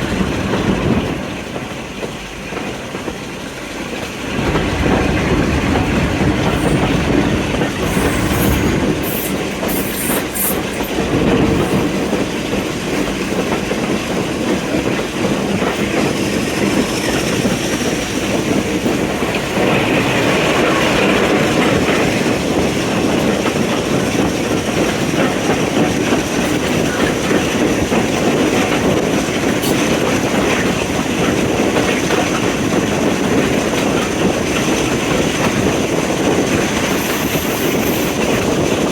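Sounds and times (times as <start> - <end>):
clickety-clack of rail joints: 0.0 - 38.9
train wheels rumbling on rails: 0.0 - 38.9.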